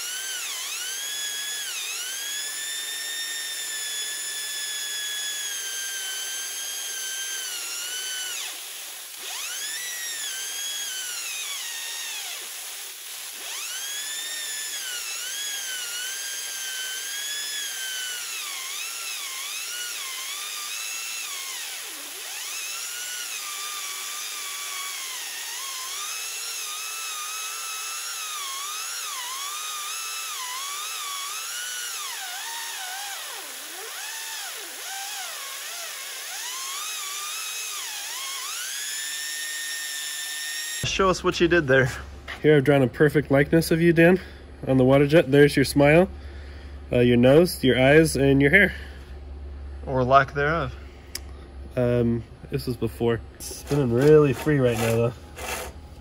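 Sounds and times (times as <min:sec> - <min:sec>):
chainsaw chain high whine: 0:00.0 - 0:49.1, 0:51.8 - 0:56.0.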